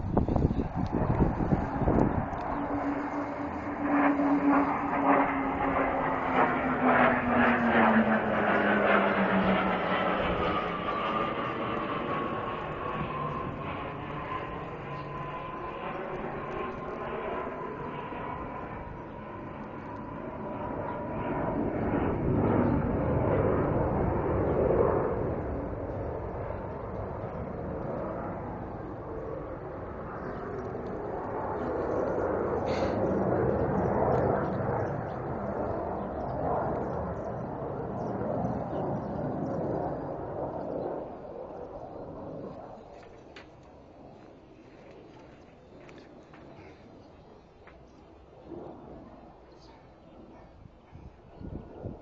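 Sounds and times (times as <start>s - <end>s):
aircraft engine drone: 0.0s - 52.0s
airplane flying over: 0.0s - 52.0s.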